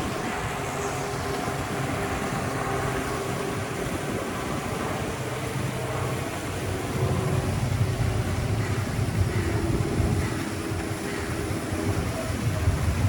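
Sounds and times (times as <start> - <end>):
background wash noise: 0.0 - 13.0
boat engine idling: 0.0 - 13.0.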